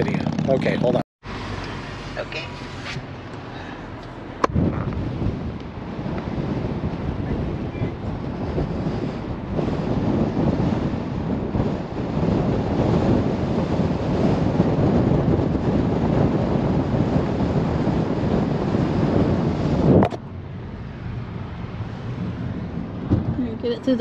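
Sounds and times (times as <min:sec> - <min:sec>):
road and wind noise inside car: 0:00.0 - 0:24.0.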